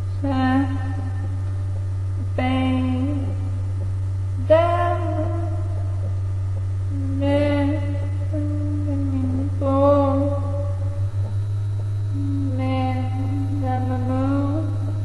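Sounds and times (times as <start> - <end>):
person humming a slow tune: 0.0 - 3.6, 4.4 - 6.2, 6.9 - 15.0
steady low hum: 0.0 - 15.0.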